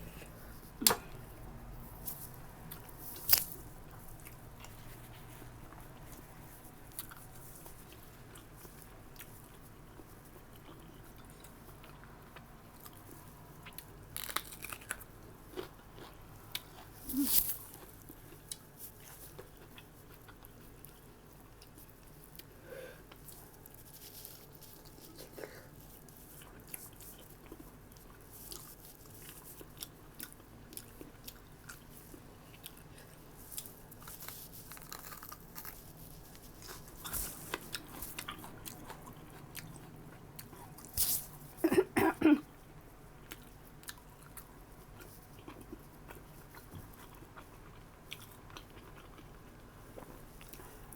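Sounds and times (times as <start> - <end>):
chewing and biting crunches: 2.1 - 41.3, 43.2 - 50.9.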